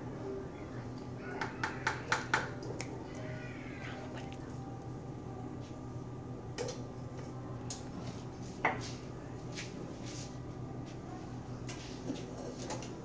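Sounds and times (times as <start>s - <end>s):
steady low hum: 2.4s - 13.0s.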